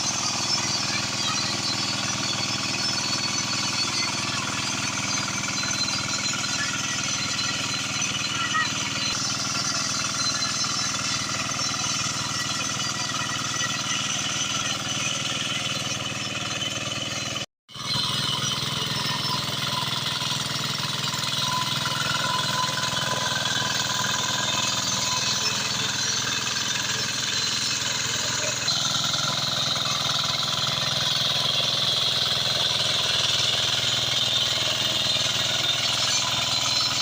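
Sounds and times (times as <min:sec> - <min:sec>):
hand tractor engine running: 0:00.0 - 0:37.0.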